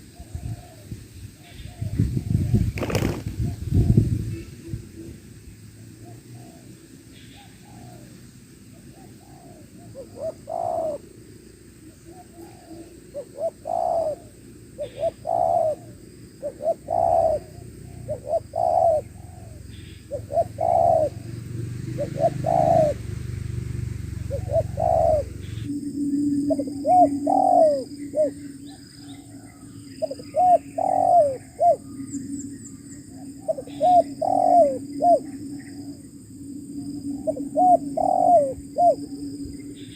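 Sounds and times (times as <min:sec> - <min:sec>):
doves cooing: 0:00.0 - 0:05.2, 0:05.9 - 0:39.9.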